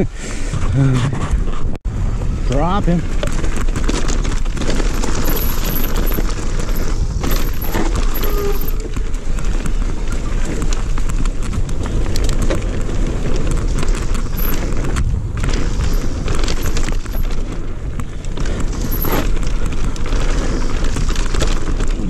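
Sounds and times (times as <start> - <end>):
wind buffeting microphone: 0.0 - 22.0
mountain bike rattling on dirt trail: 1.1 - 22.0
bike knocks and clicks on bumps: 3.1 - 22.0.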